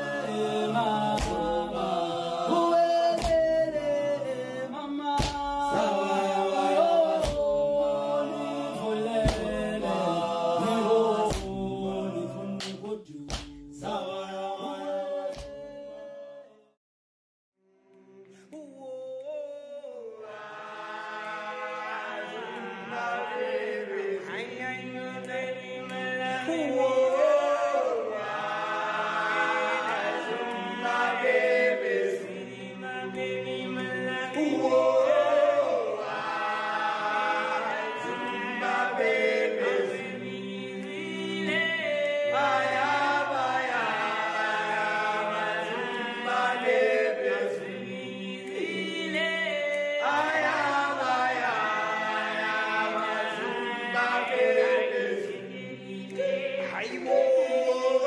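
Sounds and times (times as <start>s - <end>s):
choir singing in harmony: 0.0s - 16.7s, 17.9s - 58.0s.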